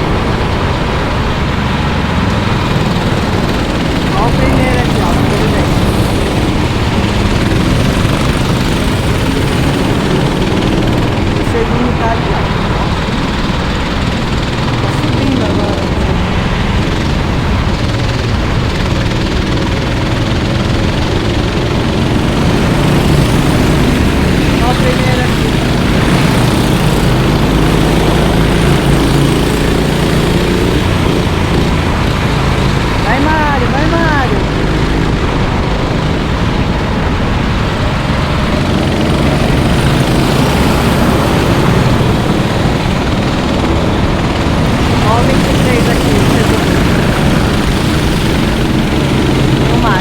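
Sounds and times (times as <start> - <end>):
go-kart engines running: 0.0 - 50.0.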